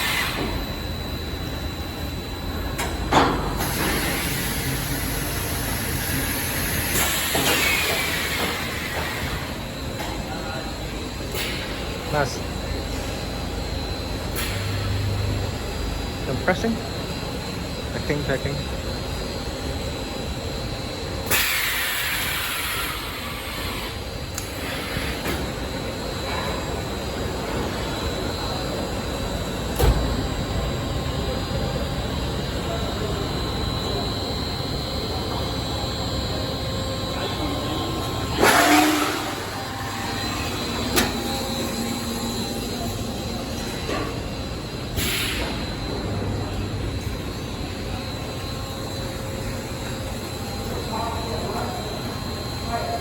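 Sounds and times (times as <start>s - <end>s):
machinery humming: 0.0s - 53.0s.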